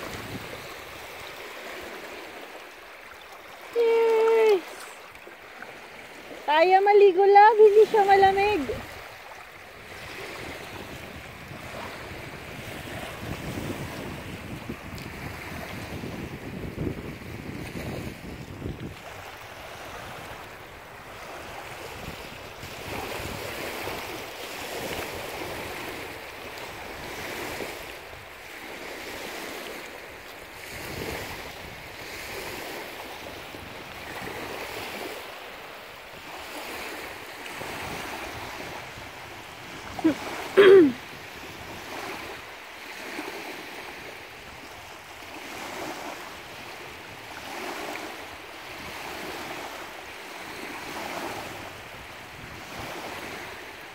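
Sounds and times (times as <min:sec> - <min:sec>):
waves lapping on pebble shore: 0:00.0 - 0:53.9
wind: 0:00.0 - 0:53.9.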